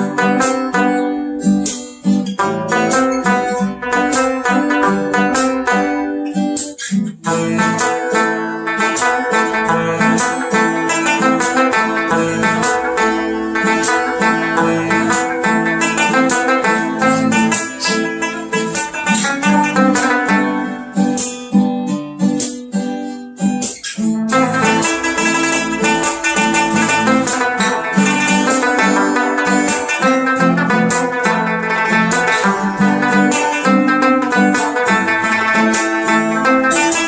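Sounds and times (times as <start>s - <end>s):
acoustic guitar music: 0.0s - 37.0s.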